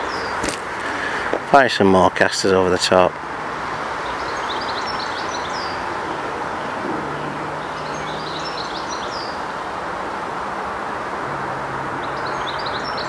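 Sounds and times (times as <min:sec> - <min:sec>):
songbird singing: 0:00.0 - 0:10.4, 0:11.9 - 0:13.0
distant traffic noise: 0:00.0 - 0:13.0.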